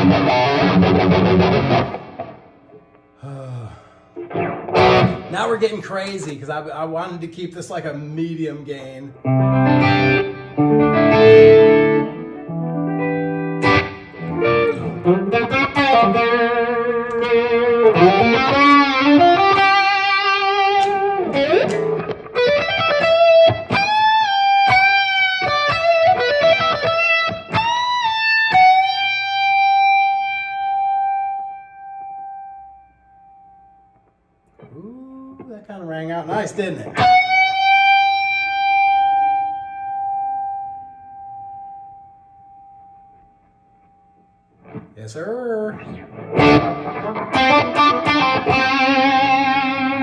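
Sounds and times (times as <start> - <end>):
overdriven electric guitar: 0.0 - 6.3, 9.1 - 35.5, 36.8 - 43.6, 44.5 - 45.0, 45.8 - 50.0.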